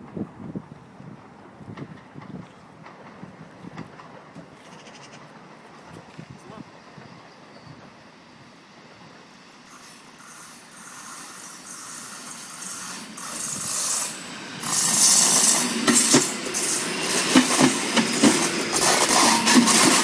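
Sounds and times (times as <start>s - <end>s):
train passing on rails: 0.0s - 20.0s.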